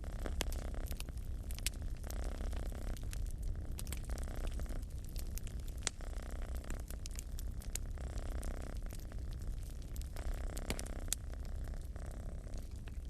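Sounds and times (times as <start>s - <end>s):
cat purring: 0.0s - 13.0s
fire crackling in fireplace: 0.0s - 13.0s.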